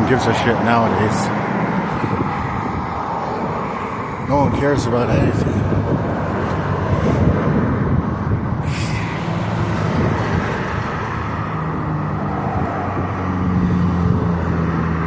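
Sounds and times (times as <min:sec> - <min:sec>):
vehicles driving past: 0:00.0 - 0:15.0.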